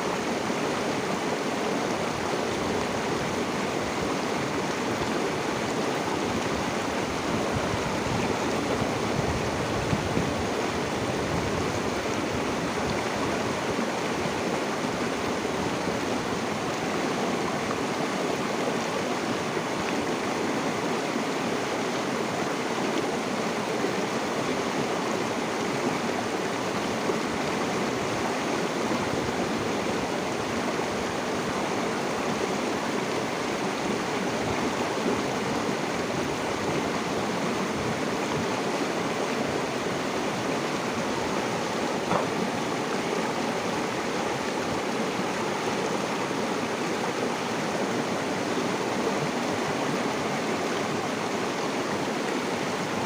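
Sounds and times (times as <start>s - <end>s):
river water flowing over rocks: 0.0s - 53.0s.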